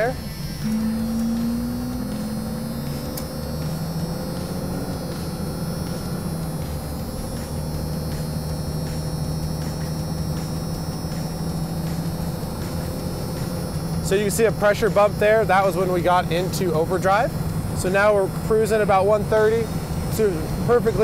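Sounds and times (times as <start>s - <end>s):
diesel engine drone: 0.0s - 21.0s
faint held tone: 0.0s - 21.0s.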